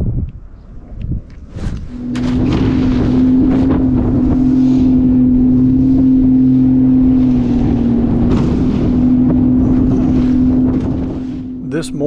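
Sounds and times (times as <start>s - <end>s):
wind rushing over microphone: 0.0s - 11.7s
outboard motor running: 0.4s - 11.9s.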